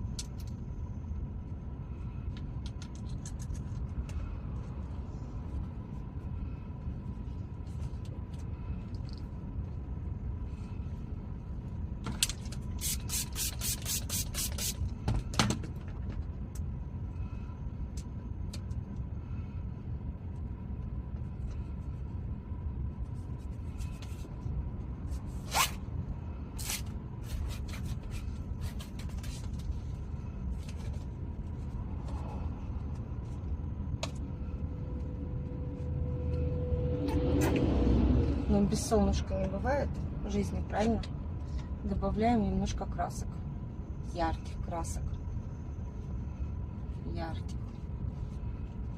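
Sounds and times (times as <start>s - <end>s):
low rumble inside a car: 0.0s - 48.9s.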